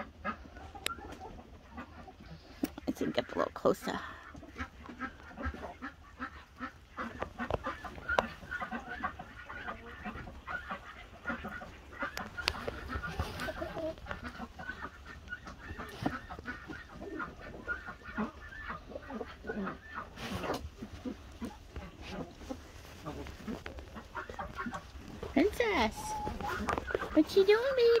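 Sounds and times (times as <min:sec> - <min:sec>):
hens clucking: 0:00.0 - 0:28.0.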